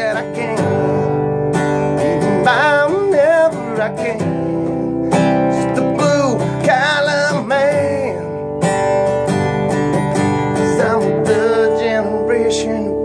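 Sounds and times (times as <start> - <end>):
man singing: 0.0 - 8.8, 10.4 - 13.0
acoustic guitar strumming: 0.0 - 13.0.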